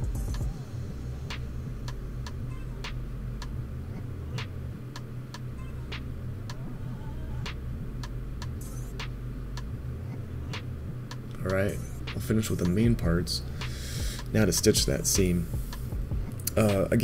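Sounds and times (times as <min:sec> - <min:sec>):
low steady hum: 0:00.0 - 0:17.0
steady ticking clicks: 0:01.3 - 0:06.6, 0:07.5 - 0:16.8.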